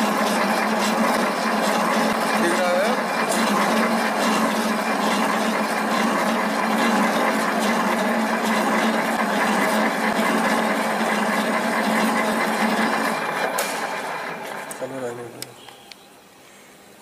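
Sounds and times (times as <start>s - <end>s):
lathe humming: 0.0s - 15.4s.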